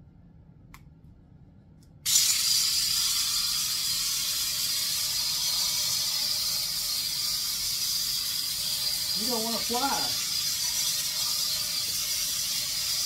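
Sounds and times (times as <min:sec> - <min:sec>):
toy helicopter rotors whirring: 0:02.1 - 0:13.0.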